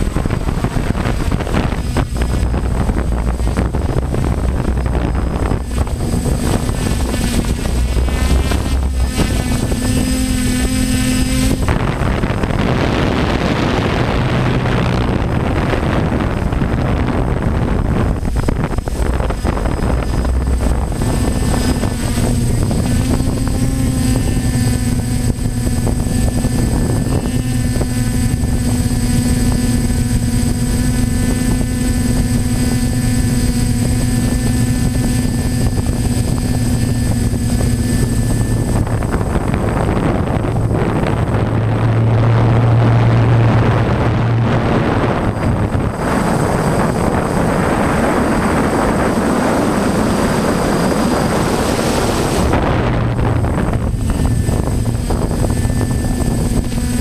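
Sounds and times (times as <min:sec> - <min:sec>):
drone motors and propellers humming: 0:00.0 - 0:57.0
wind rushing over microphone: 0:00.0 - 0:57.0.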